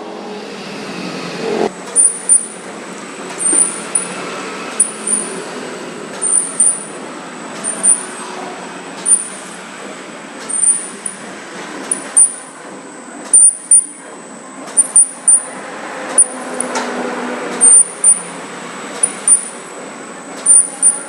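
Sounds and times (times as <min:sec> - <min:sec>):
machine mechanical drone: 0:00.0 - 0:21.0.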